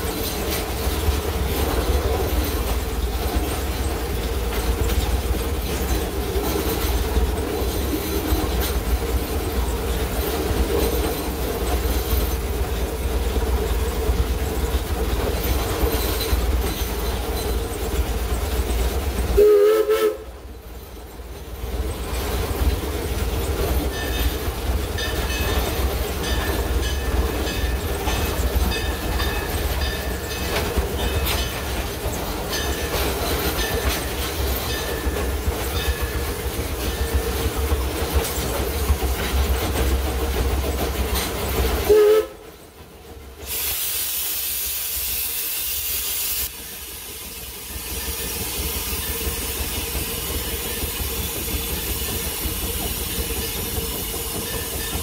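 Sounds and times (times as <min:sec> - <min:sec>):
wheels clattering on rail: 0:00.0 - 0:44.2, 0:44.9 - 0:55.0
steam locomotive rumbling: 0:00.0 - 0:55.0.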